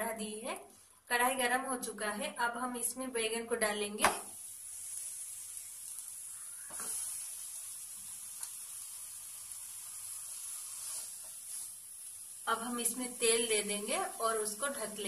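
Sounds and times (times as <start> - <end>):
eggplant sizzling in pan: 2.7 - 15.0.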